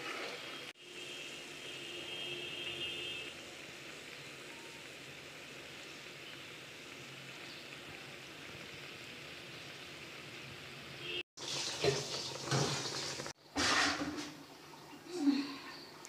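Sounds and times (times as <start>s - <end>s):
syrup bubbling in a pan: 0.1s - 13.5s.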